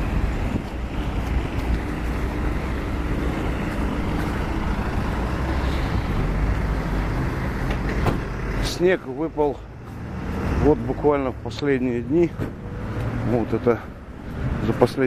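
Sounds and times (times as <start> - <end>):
traffic rumble on wet street: 0.0 - 15.0.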